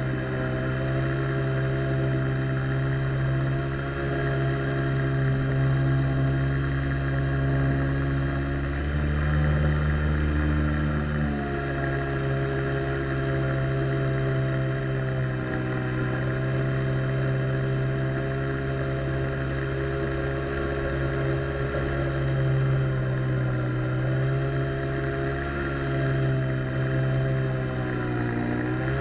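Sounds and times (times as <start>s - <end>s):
outboard jet motor running: 0.0s - 29.0s.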